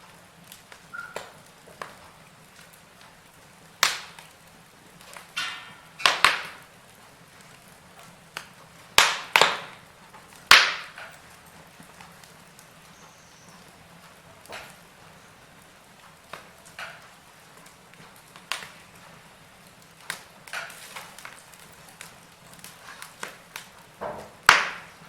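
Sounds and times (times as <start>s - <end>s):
faint steady hiss: 0.0s - 25.0s
wood fire crackling and popping: 0.0s - 25.0s.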